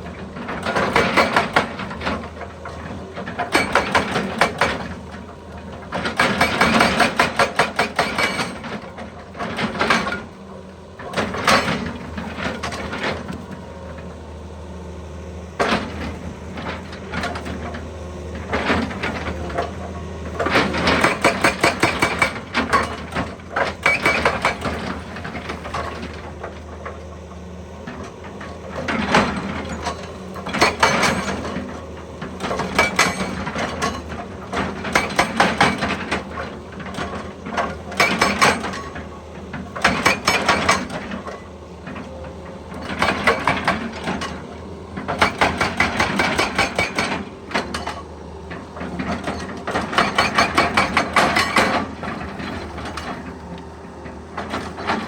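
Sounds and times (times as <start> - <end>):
hydraulic breaker hammering rock: 0.1 - 10.4, 11.0 - 13.6, 15.6 - 27.0, 27.8 - 53.5, 54.3 - 55.0.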